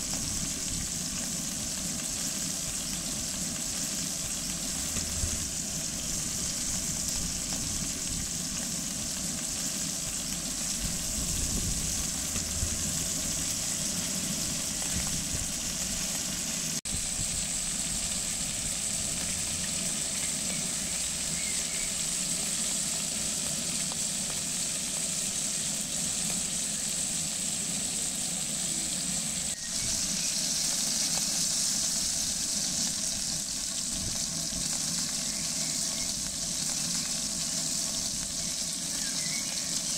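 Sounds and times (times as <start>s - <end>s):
meat sizzling in bubbling fat: 0.0s - 39.9s.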